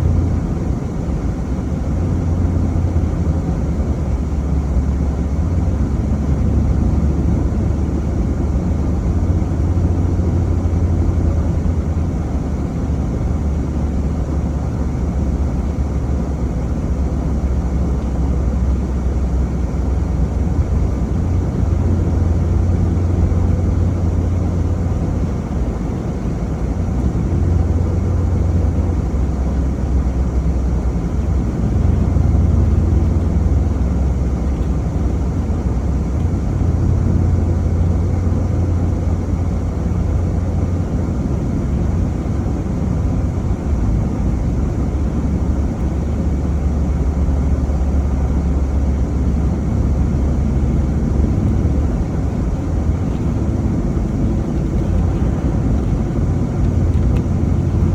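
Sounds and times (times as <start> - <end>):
vehicle driving on road: 0.0 - 57.9.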